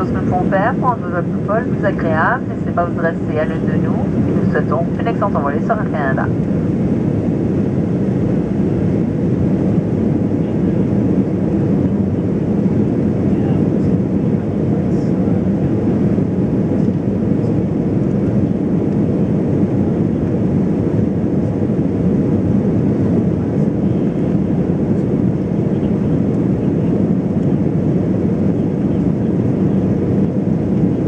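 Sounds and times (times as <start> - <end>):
airliner cabin drone: 0.0 - 31.0.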